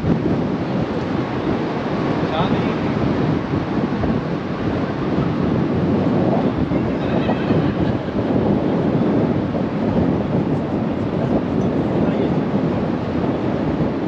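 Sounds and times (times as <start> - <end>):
water rushing along boat: 0.0 - 14.0
wind buffeting microphone: 0.0 - 14.0.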